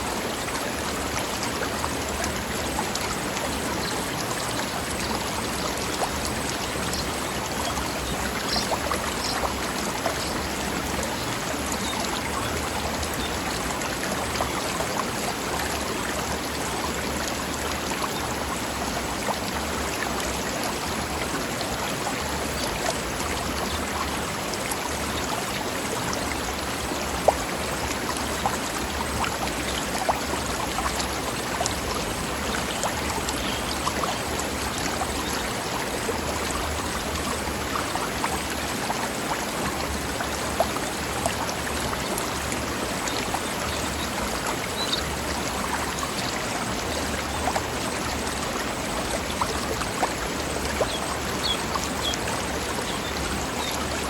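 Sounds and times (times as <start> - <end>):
small water splashes: 0.0 - 54.0
stream flowing over rocks: 0.0 - 54.0.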